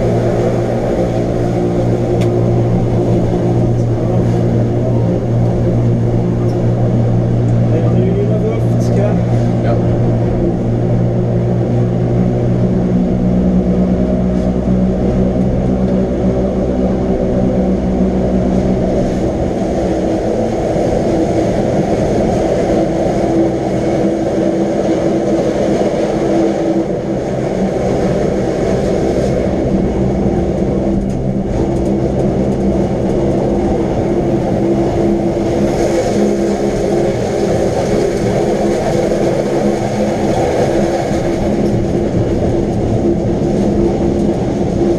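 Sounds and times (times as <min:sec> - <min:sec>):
electric train rumbling: 0:00.0 - 0:44.9
traction motors humming: 0:00.0 - 0:44.9.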